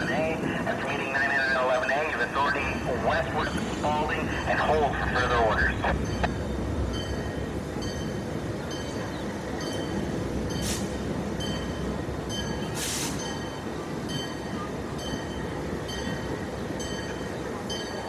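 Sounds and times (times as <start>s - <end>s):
locomotive engine rumbling: 0.0s - 18.0s
locomotive bell ringing: 2.4s - 18.0s.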